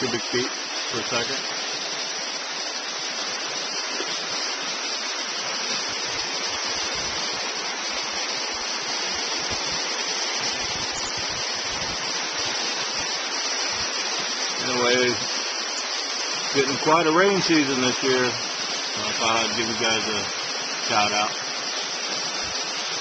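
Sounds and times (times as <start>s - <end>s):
river whitewater rushing: 0.0s - 23.0s.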